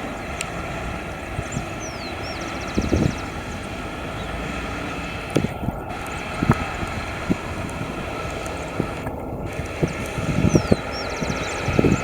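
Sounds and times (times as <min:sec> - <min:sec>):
distant jet engines running: 0:00.0 - 0:12.0.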